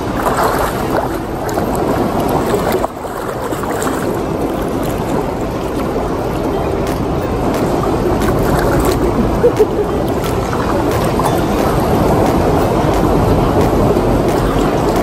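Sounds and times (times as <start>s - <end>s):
seawater splashing and sloshing: 0.0s - 15.0s.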